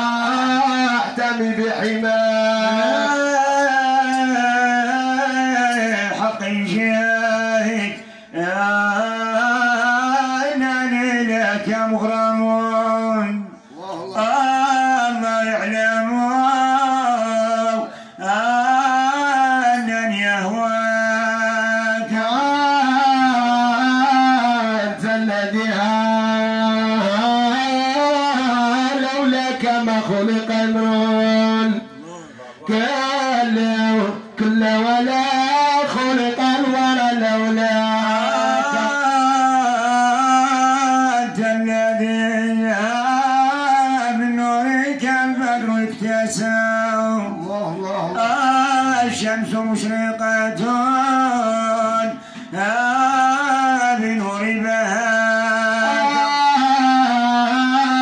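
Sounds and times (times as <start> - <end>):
men singing devotional song: 0.0 - 58.0.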